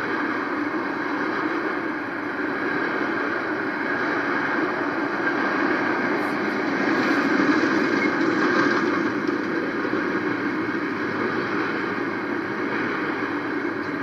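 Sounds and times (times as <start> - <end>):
freight train wheels rattling: 0.0 - 14.0.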